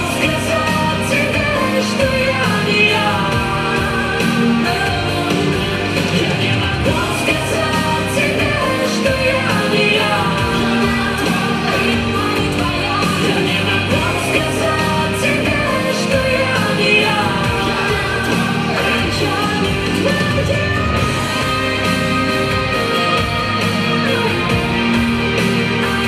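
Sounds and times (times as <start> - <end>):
song with sung vocals: 0.0 - 26.0.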